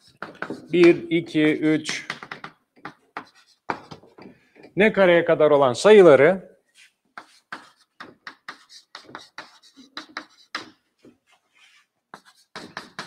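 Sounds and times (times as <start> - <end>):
chalk writing on blackboard: 0.0 - 4.7, 6.7 - 13.0.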